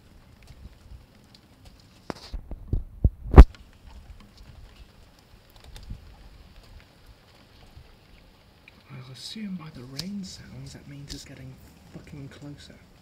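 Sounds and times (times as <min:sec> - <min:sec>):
rain patter ticks: 0:00.0 - 0:13.0
raindrops thumping microphone: 0:00.0 - 0:13.0.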